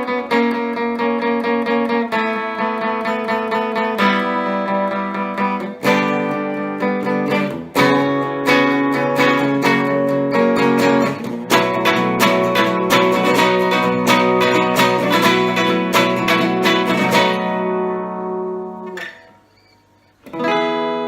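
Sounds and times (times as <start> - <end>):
electric guitar strumming chords: 0.0 - 19.6, 20.2 - 21.0.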